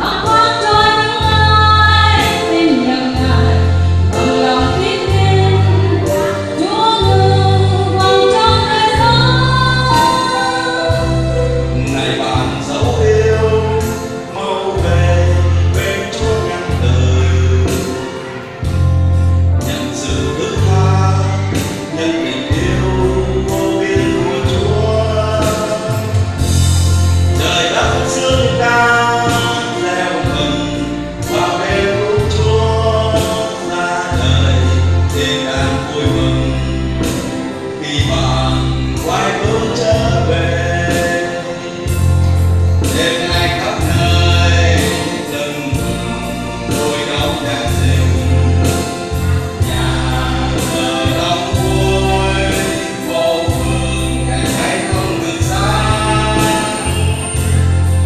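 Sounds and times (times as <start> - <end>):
woman and man singing duet: 0.0 - 18.4, 19.6 - 26.4, 27.3 - 42.0, 42.8 - 57.7
instrumental accompaniment with bass: 0.0 - 58.0.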